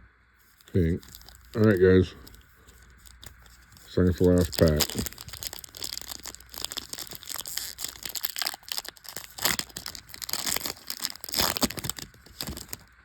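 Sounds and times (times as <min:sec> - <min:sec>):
wrapper tearing and crinkling: 0:00.5 - 0:13.0.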